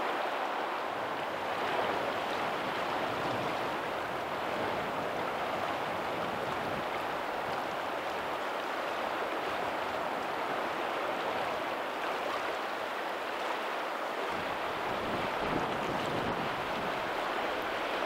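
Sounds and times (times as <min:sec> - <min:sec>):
faint ocean surf: 0:00.0 - 0:18.0
rushing water: 0:00.0 - 0:18.0.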